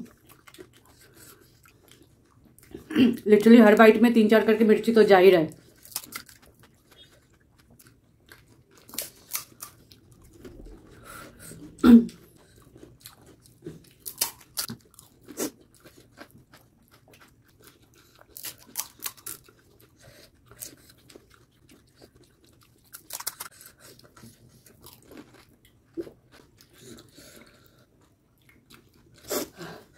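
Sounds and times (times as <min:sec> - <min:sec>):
chewing: 0:00.0 - 0:03.2, 0:05.6 - 0:29.9.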